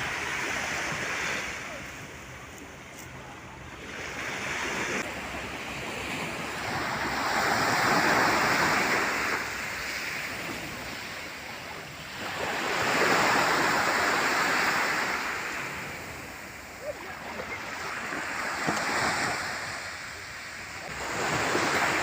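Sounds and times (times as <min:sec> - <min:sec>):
sea surf washing on beach: 0:00.0 - 0:22.0.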